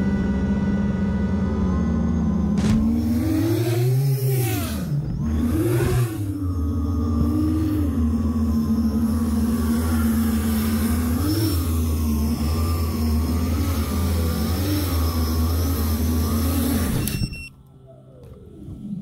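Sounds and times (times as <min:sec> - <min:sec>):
quadcopter motors humming: 0:00.0 - 0:19.0.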